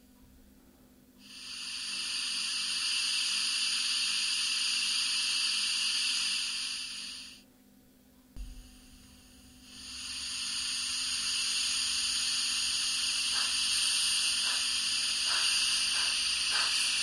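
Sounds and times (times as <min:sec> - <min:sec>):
model train steam hiss: 0:01.2 - 0:07.4, 0:08.6 - 0:17.0.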